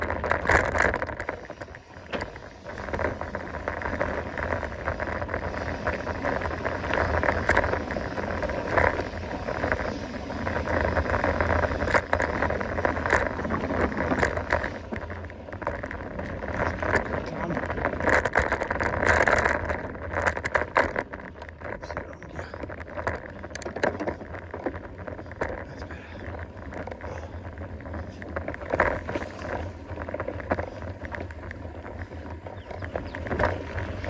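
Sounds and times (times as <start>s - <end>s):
bike knocking and rattling: 0.0s - 34.0s
bike tyre noise on trail: 0.0s - 34.0s
wind noise: 0.0s - 34.0s.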